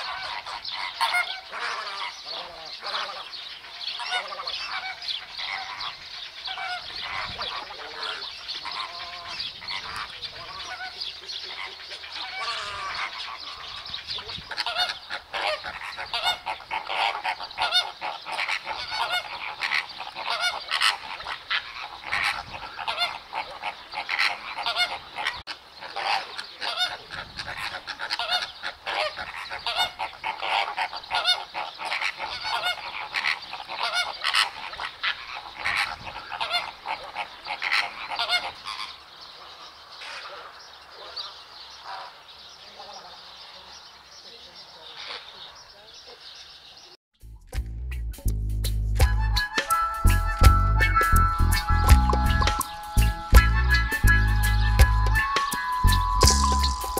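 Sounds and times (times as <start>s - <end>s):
flamingos honking: 0.0s - 39.0s, 49.1s - 56.9s.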